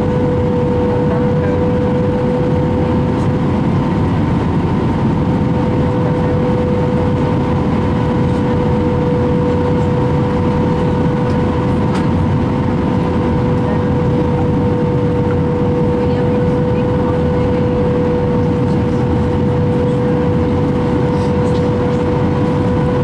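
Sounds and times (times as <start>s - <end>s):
airliner cabin engine rush: 0.0s - 23.0s
steady hum tone: 0.0s - 23.0s.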